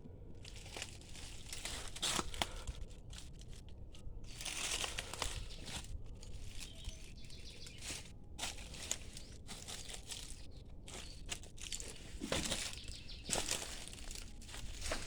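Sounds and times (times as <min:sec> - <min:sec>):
crunching and crinkling: 0:00.0 - 0:15.0.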